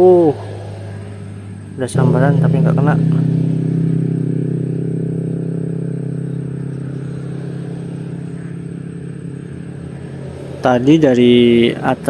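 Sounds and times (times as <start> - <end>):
motor engine running: 0.3 - 12.0.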